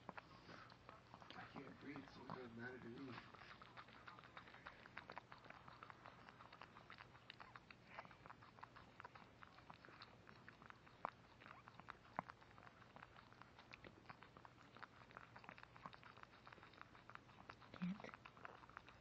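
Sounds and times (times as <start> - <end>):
dog licking puppy wet smacks: 0.0 - 19.0.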